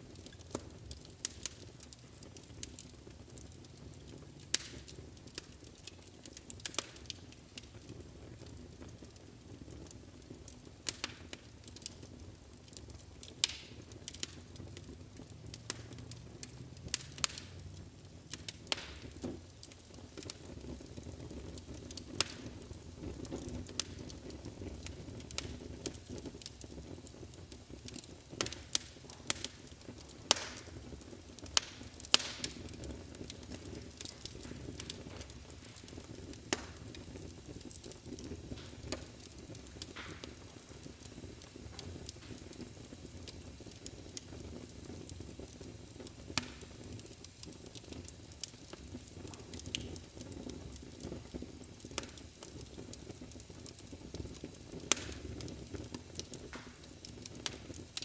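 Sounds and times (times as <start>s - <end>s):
fire crackling and popping: 0.0s - 58.0s
fire low rumble: 0.0s - 58.0s.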